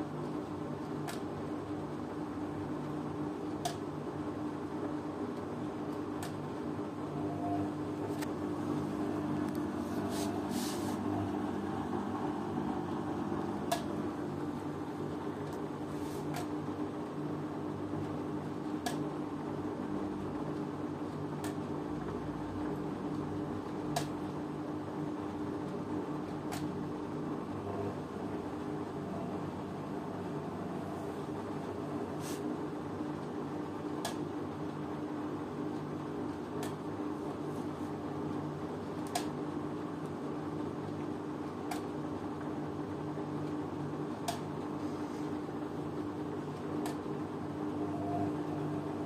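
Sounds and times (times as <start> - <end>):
washing machine humming: 0.0 - 49.0.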